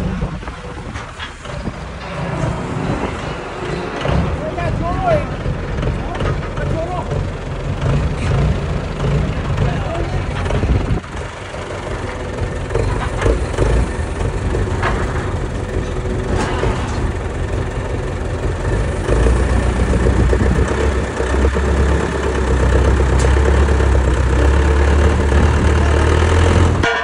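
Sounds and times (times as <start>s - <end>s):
forklift engine revving: 0.0s - 27.0s
metal knocks: 0.3s - 17.9s, 19.2s - 27.0s.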